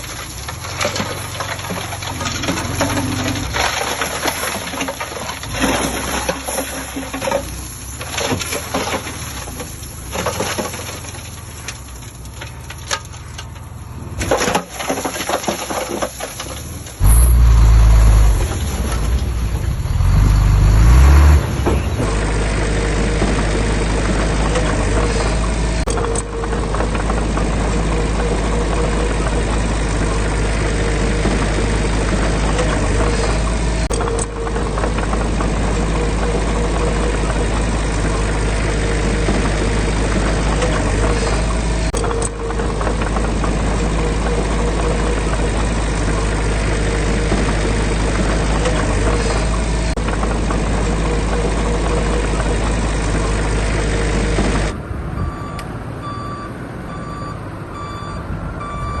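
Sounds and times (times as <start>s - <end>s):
construction machinery knocks and scraping: 0.0s - 54.8s
diesel engine rumble: 0.0s - 59.0s.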